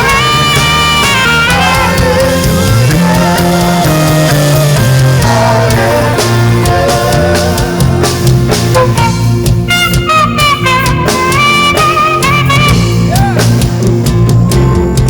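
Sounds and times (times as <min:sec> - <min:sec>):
live band with drums and bass: 0:00.0 - 0:15.0
saxophone melody: 0:00.0 - 0:15.0.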